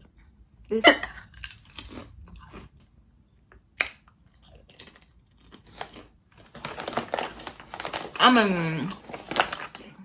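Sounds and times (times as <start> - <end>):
person chewing crunchy chips: 1.1 - 3.0, 3.8 - 10.0.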